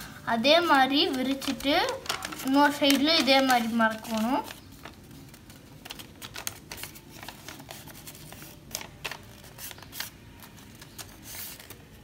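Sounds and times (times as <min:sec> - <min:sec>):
paper folding and crinkling: 0:00.7 - 0:12.0.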